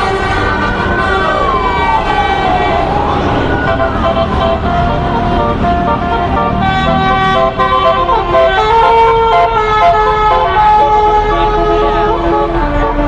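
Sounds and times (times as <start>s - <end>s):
bus engines running: 0.0s - 13.0s
bus musical horns playing: 0.0s - 13.0s.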